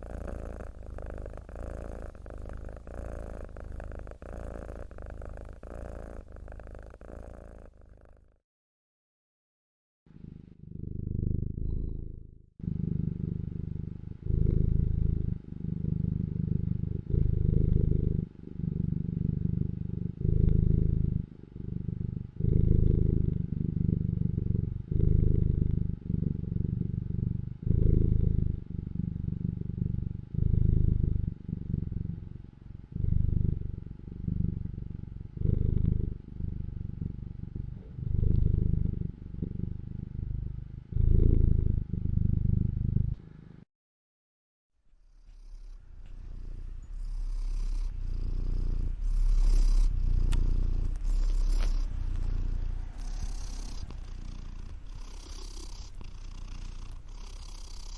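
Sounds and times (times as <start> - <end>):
cat purring: 0.0 - 8.4, 10.1 - 43.6, 45.0 - 57.9.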